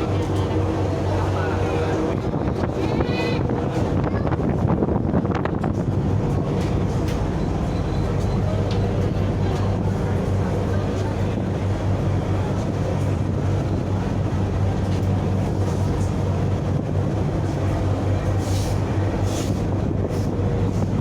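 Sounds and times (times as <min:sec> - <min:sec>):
ship engine humming: 0:00.0 - 0:21.0.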